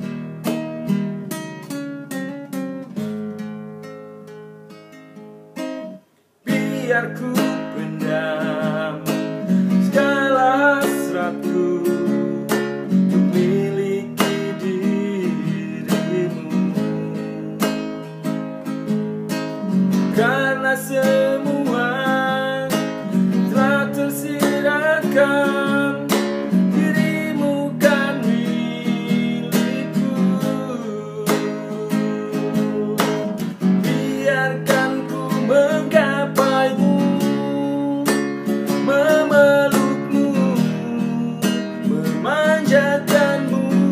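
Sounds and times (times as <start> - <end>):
classical guitar strumming chords: 0.0 - 43.9
man singing: 6.4 - 18.4, 20.1 - 43.9.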